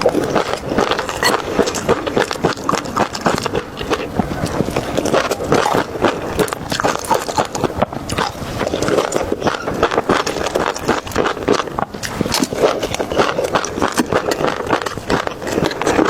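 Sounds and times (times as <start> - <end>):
close chewing with wet smacks: 0.0 - 16.0.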